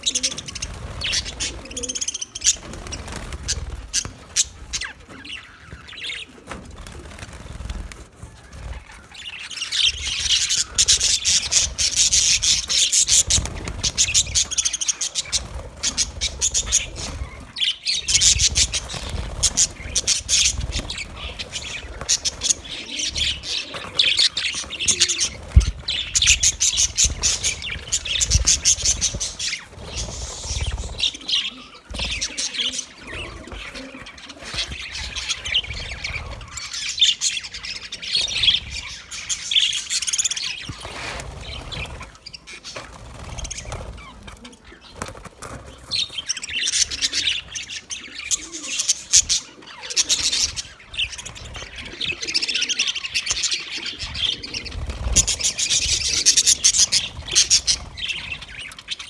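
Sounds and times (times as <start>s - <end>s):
budgerigars chirping: 8.7s - 44.1s, 46.0s - 59.0s.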